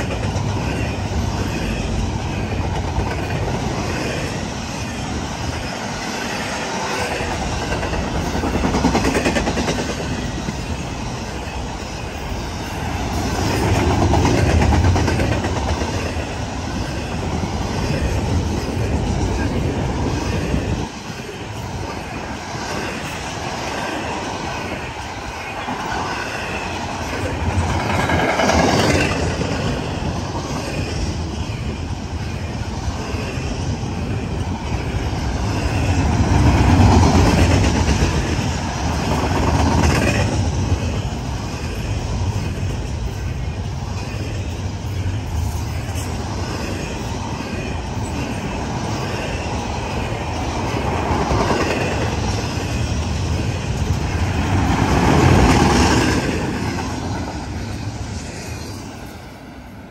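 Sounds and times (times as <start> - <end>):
wheels clickety-clack: 0.0 - 4.5, 5.4 - 31.3, 34.7 - 58.7
train wheels rumbling on rail: 0.0 - 59.9.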